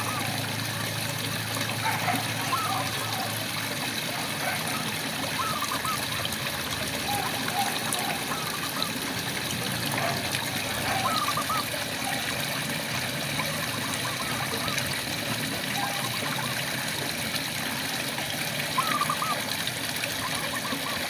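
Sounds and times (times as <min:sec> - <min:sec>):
frogs trilling: 0:00.0 - 0:00.8, 0:01.6 - 0:09.2, 0:09.9 - 0:12.7, 0:13.3 - 0:16.9, 0:18.6 - 0:21.0.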